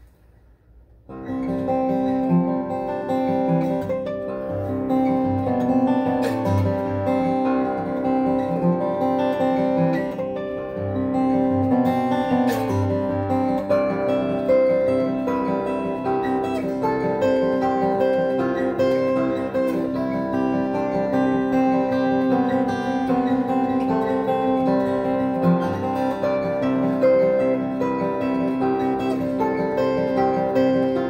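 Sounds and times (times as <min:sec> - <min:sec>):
acoustic guitar picking: 0:00.0 - 0:31.0.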